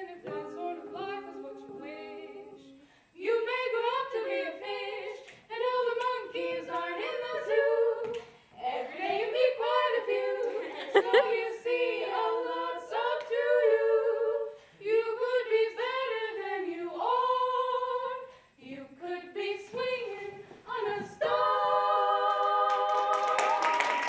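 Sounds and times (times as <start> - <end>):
vocal group singing a cappella: 0.0 - 24.0.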